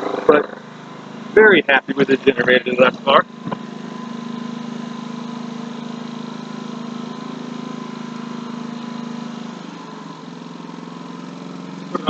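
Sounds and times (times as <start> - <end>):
generator running: 0.0 - 12.0.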